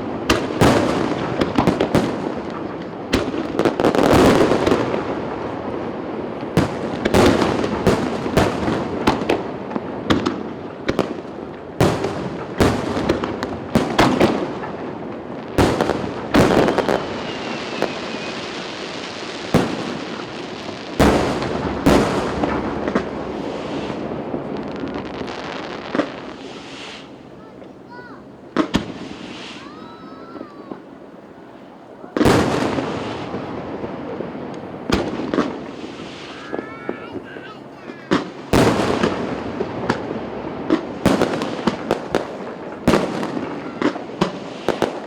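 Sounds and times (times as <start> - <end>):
fireworks crackle: 0.0 - 45.0.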